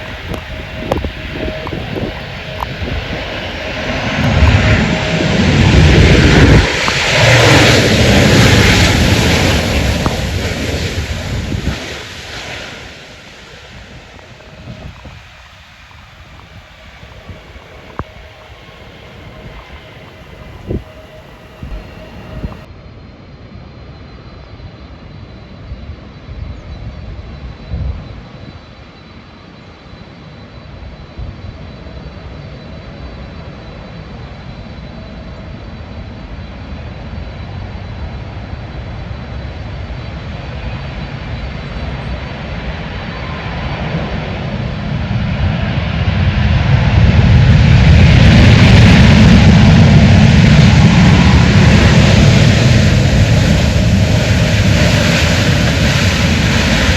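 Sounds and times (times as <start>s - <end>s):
airliner engines: 0.0s - 56.9s.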